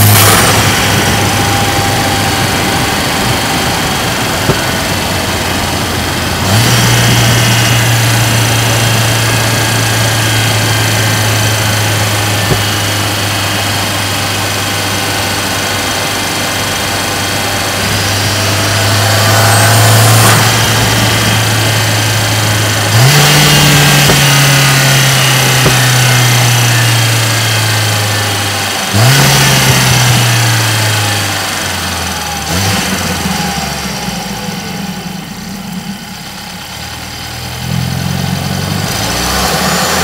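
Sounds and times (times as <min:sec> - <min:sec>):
low car engine drone: 0:00.0 - 0:40.0.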